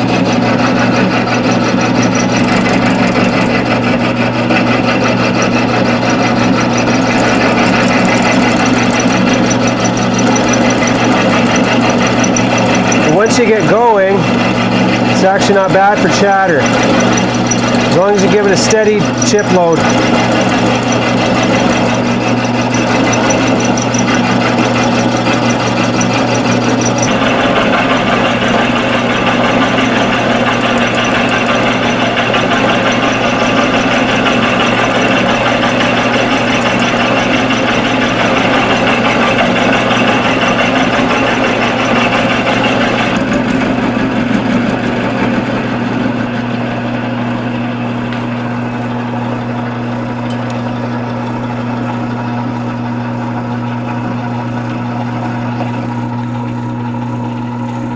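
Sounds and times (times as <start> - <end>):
milling cutter cutting metal: 0.0 - 57.0
motor hum: 0.0 - 57.9.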